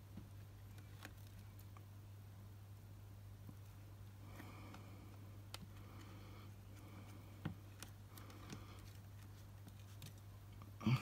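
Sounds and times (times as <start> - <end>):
steady low hum: 0.0 - 11.0
light ticks and soft scratching: 0.1 - 2.0, 3.4 - 10.7.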